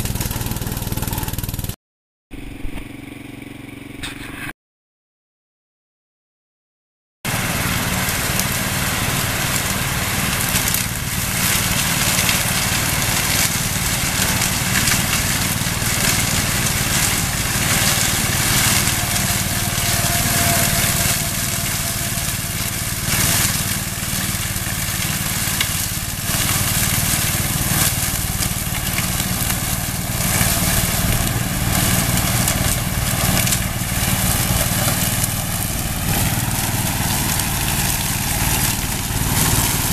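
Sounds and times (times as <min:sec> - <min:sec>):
blades crunching brush: 0:00.0 - 0:01.8, 0:07.3 - 0:39.9
mower engine running: 0:00.0 - 0:04.4, 0:07.3 - 0:39.9.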